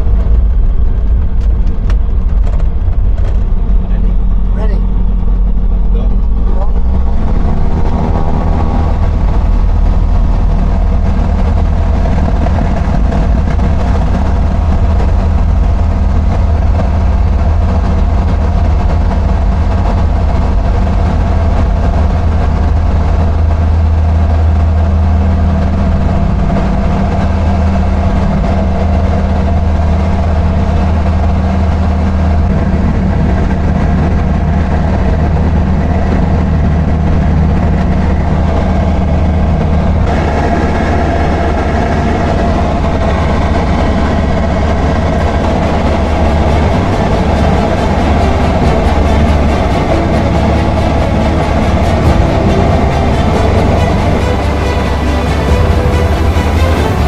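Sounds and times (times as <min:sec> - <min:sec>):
aircraft engine and propeller: 0:00.0 - 0:57.0.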